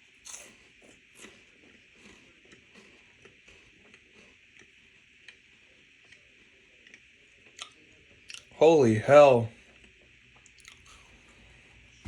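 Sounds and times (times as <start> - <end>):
chewing crunchy wafer: 0.0 - 8.6, 9.6 - 12.0.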